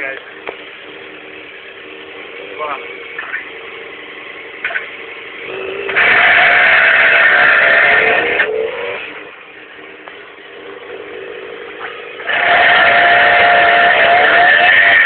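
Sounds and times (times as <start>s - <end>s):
motorbike engine revving hard: 0.0s - 15.0s.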